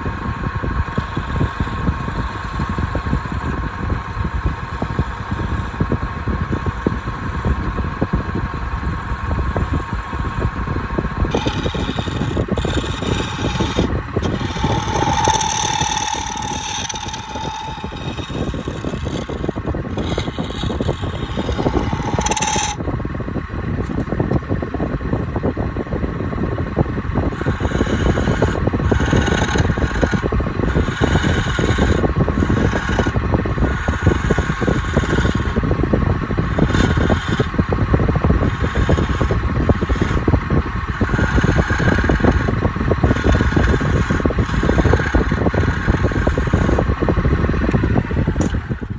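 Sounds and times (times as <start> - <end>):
wood lathe motor whine: 0.0 - 25.4, 26.1 - 48.9
tool scraping turning wood: 0.7 - 7.8, 8.9 - 22.9, 23.8 - 24.5, 27.2 - 48.9.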